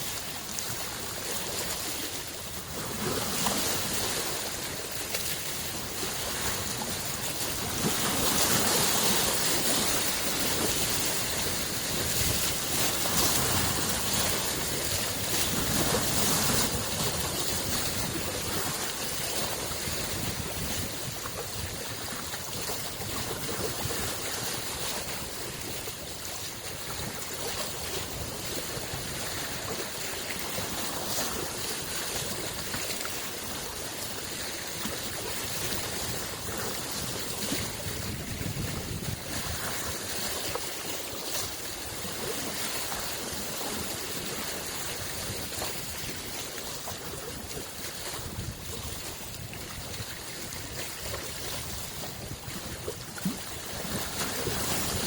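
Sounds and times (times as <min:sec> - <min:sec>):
lake waves lapping at shore: 0:00.0 - 0:55.0.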